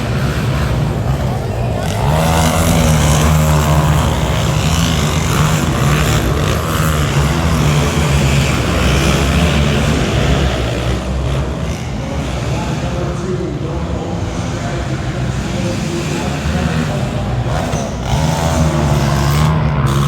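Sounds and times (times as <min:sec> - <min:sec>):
monster truck engine drone: 0:00.0 - 0:20.0.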